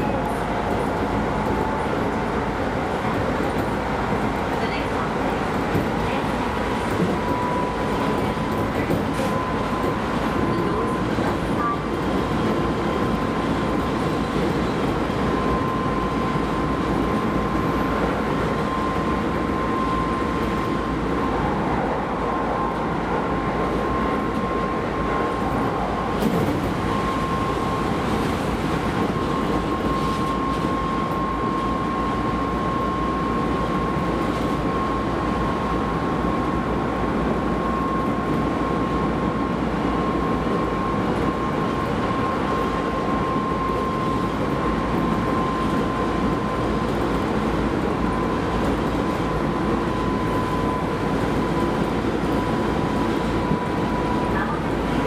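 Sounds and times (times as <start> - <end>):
train rail and running noise: 0.0 - 55.0.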